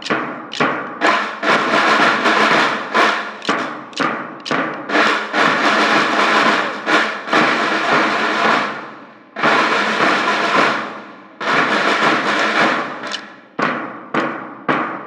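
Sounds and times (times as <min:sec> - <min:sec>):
drum and cymbal crashes: 0:00.0 - 0:15.0.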